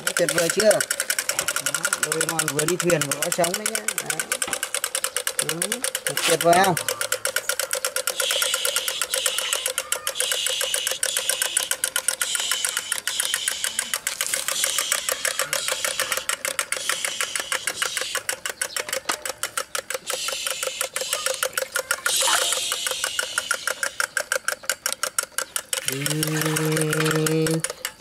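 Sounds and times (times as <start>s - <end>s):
drumsticks tapping toy drum: 0.0s - 28.0s
toy motor whirring: 0.0s - 28.0s.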